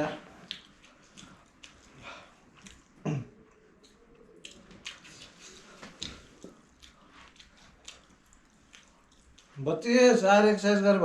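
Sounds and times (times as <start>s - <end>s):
chewing and mouth smacks: 0.2s - 9.6s.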